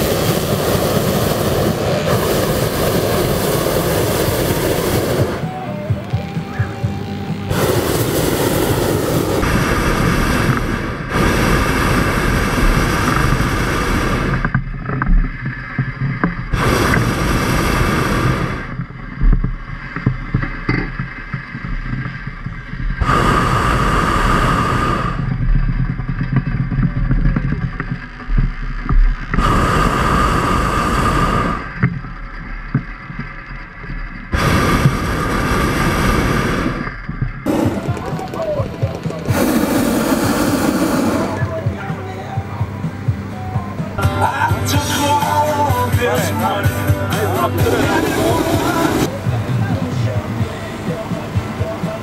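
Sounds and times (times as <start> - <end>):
motocross bike engines: 0.0 - 52.0.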